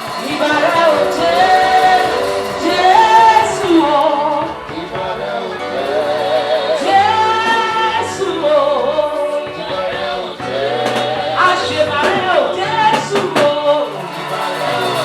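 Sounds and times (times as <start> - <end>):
band with held bass line: 0.0 - 15.0
woman singing with vibrato: 0.0 - 15.0.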